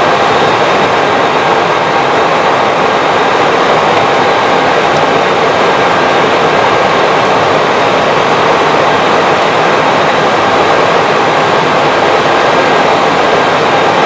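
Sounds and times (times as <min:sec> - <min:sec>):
airflow and air-conditioning hiss: 0:00.0 - 0:14.0.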